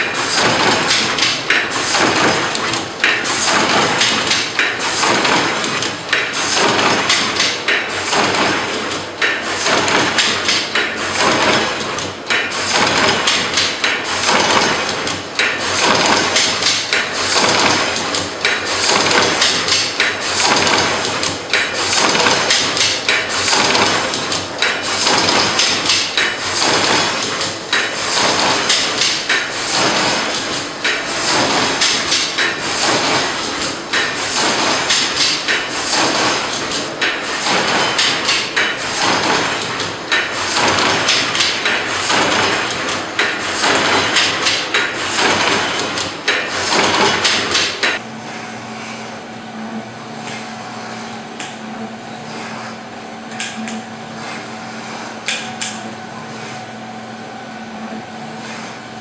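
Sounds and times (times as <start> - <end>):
machine clacking and knocking: 0.0 - 48.0, 55.2 - 56.0.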